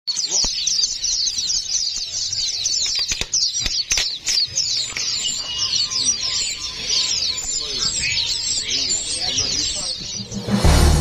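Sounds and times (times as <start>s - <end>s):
fledgling birds chirping: 0.1s - 11.0s.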